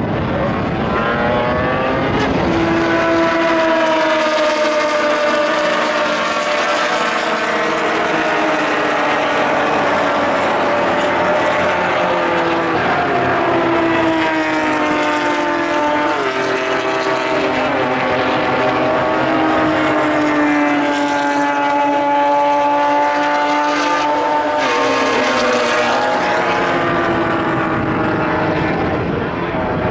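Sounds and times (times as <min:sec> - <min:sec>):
race car engines at full throttle: 0:00.0 - 0:29.9.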